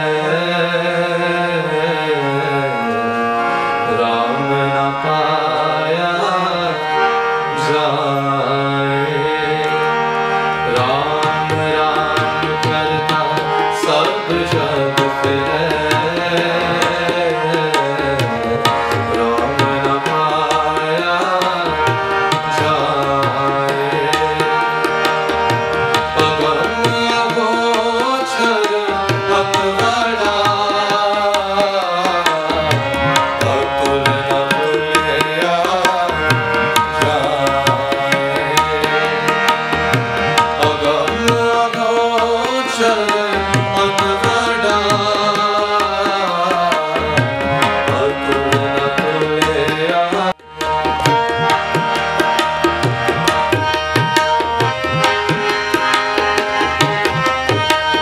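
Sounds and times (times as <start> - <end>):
tabla playing steady rhythm: 0.0 - 58.0.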